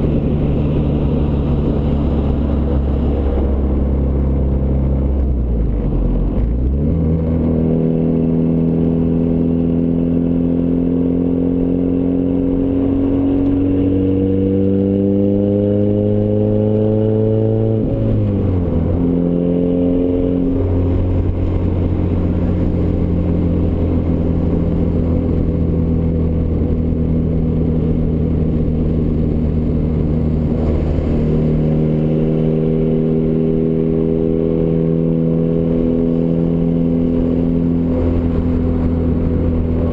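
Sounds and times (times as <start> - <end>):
car engine through exhaust: 0.0 - 39.9.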